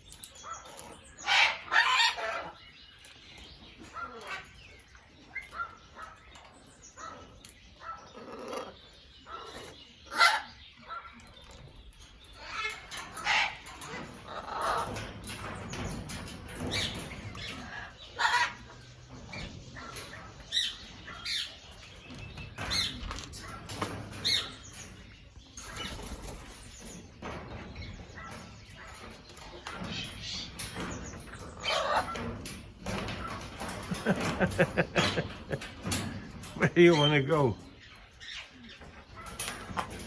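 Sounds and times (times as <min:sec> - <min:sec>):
parrots rustling: 0:07.0 - 0:40.0.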